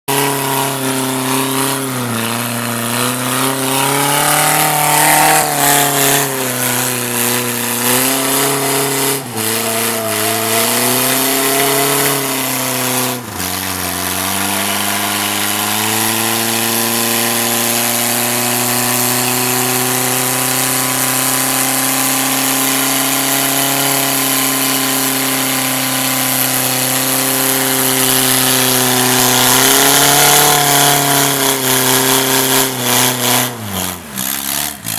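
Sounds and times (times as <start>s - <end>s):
engine revving hard: 0.0s - 34.9s.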